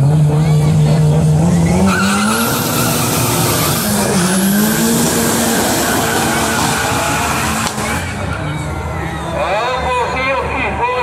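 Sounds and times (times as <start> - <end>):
high engine whine: 0.0 - 10.8
drag racing cars accelerating: 0.0 - 11.0.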